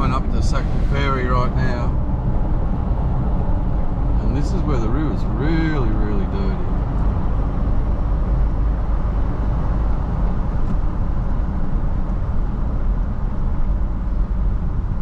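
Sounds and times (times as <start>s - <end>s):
car engine from inside: 0.0s - 15.0s
road noise: 0.0s - 15.0s.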